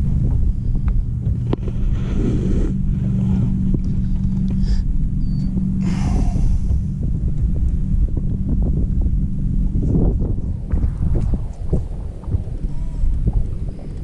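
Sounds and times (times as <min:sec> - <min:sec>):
boat motor rumbling: 0:00.0 - 0:14.0.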